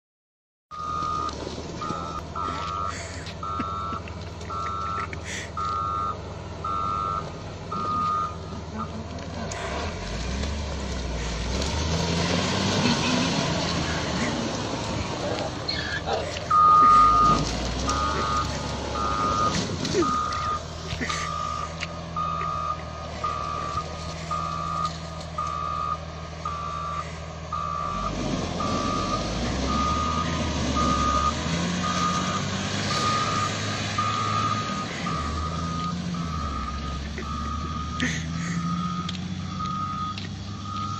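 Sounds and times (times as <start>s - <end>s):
reversing alarm beeping: 0.7s - 8.9s, 15.7s - 40.9s
vehicle engine running: 0.8s - 40.9s.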